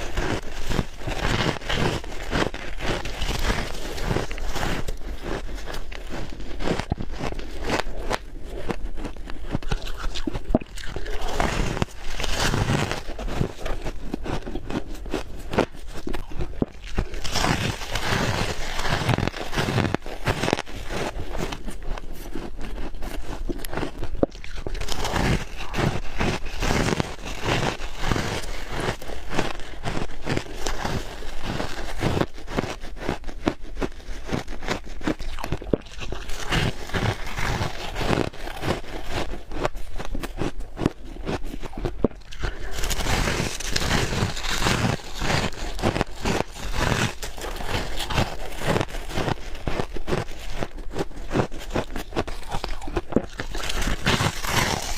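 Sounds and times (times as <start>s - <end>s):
chewing crunchy frost: 0.0s - 54.9s.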